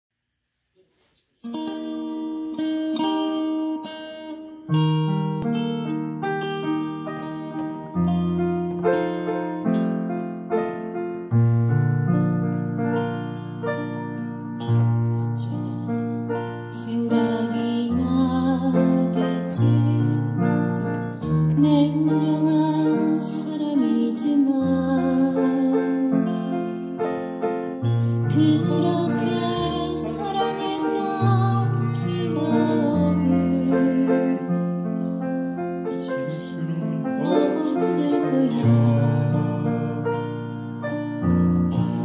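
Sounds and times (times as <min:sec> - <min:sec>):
digital piano playing slow song: 0:01.9 - 0:42.0.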